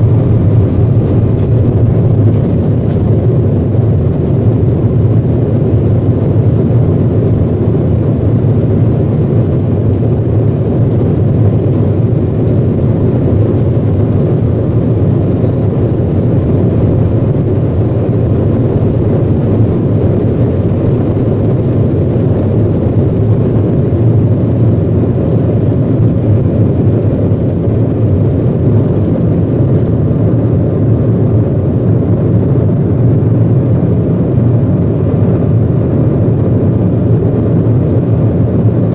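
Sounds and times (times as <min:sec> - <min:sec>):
jet engine rumble in cabin: 0:00.0 - 0:38.9
rushing air: 0:00.0 - 0:38.9.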